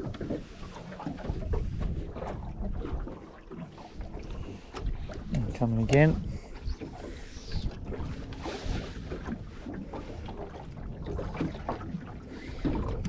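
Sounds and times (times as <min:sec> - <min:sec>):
waves lapping against boat hull: 0:00.0 - 0:13.0
wind buffeting microphone: 0:00.0 - 0:13.0.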